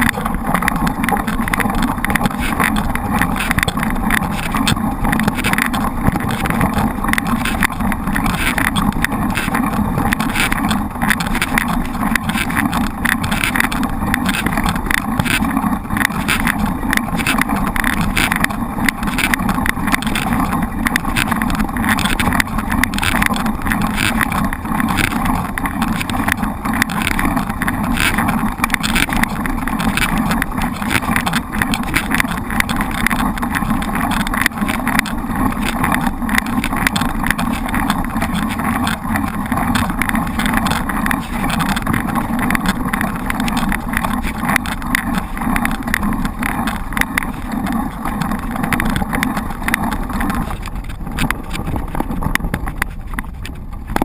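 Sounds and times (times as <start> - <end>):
bike riding noise: 0.0 - 54.0
wind rush on microphone: 0.0 - 54.0.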